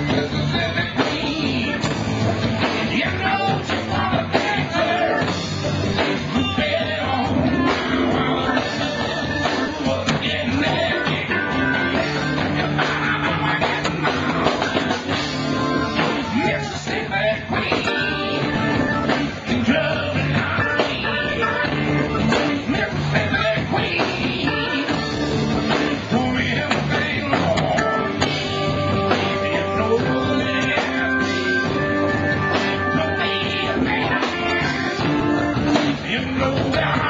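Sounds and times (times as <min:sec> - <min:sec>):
drum kit: 0:00.0 - 0:37.0
electric guitar: 0:00.0 - 0:37.0.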